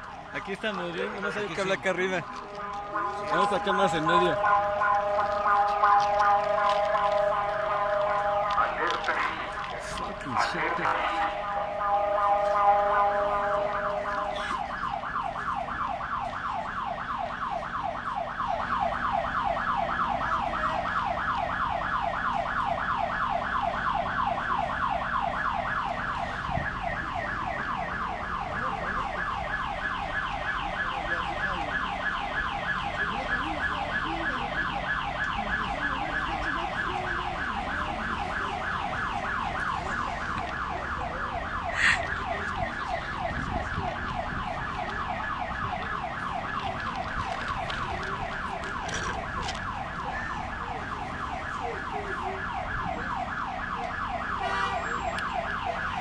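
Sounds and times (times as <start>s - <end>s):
low traffic rumble: 0.0s - 56.0s
electronic alarm siren whooping: 2.2s - 56.0s.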